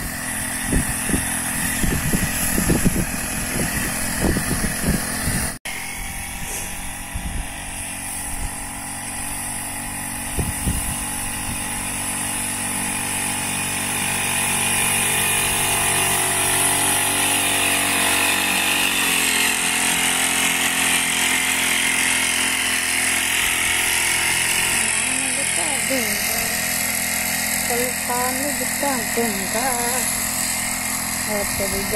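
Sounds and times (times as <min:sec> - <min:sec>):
small sprayer engine running: 0:00.0 - 0:31.9.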